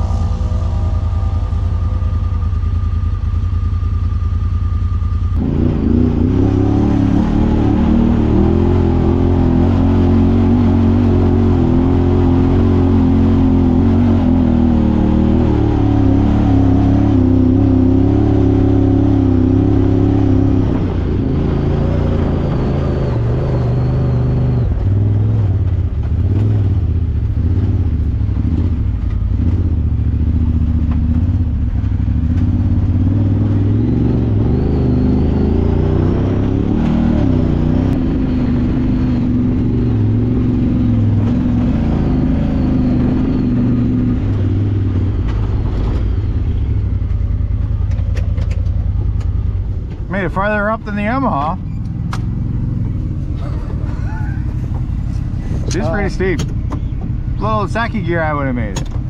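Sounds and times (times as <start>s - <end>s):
vehicle engine pulling under load: 0.0s - 59.0s.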